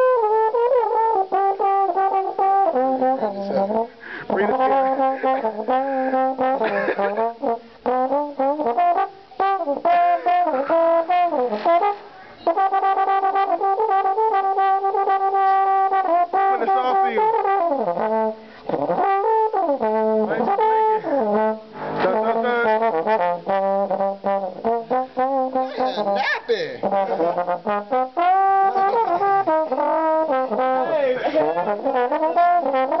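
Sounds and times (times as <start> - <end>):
brass horn playing: 0.0 - 33.0.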